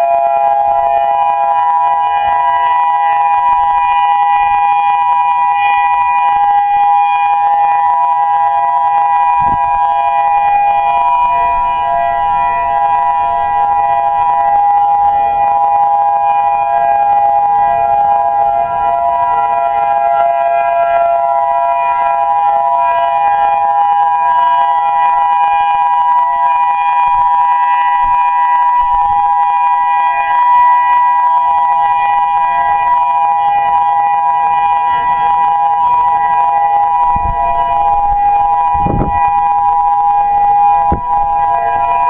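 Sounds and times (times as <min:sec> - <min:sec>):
electronic siren steady chord: 0:00.0 - 0:42.0.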